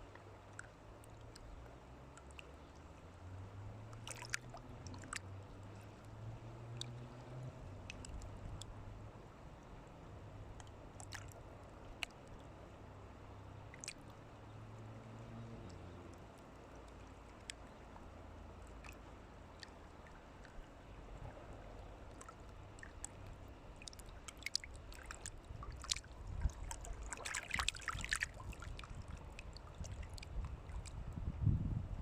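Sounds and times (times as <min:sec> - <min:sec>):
crackling splashes: 0:00.0 - 0:08.8, 0:10.4 - 0:31.1
running water: 0:00.0 - 0:08.8, 0:10.5 - 0:31.2.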